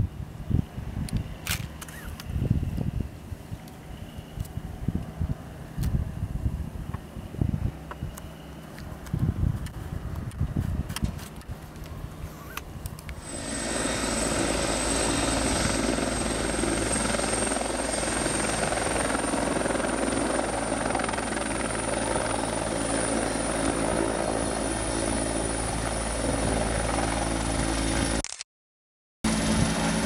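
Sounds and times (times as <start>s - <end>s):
helicopter turbine whine: 0.0s - 28.2s, 29.3s - 30.0s
helicopter rotor rumble: 0.1s - 28.2s, 29.3s - 30.0s.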